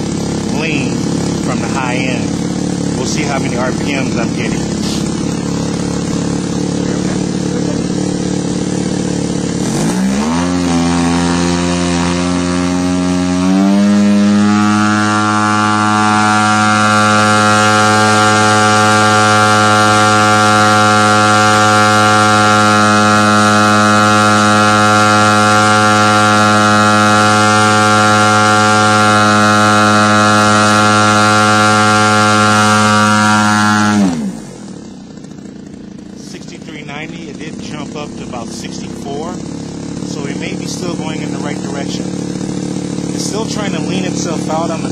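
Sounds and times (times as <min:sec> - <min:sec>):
model airplane engine revving: 0:00.0 - 0:44.9.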